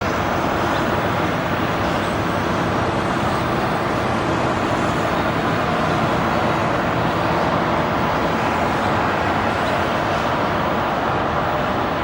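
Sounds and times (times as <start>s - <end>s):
faint high jet whine: 0.0s - 12.0s.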